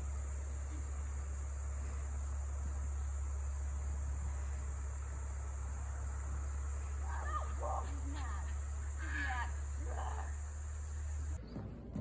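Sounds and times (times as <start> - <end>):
crickets chirping: 0.0 - 11.4
low steady rumble: 0.0 - 12.0.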